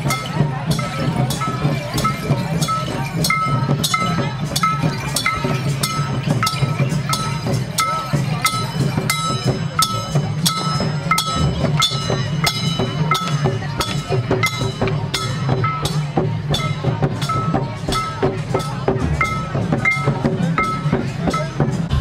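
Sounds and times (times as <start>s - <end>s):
ringing metallic percussion strikes: 0.0s - 22.0s.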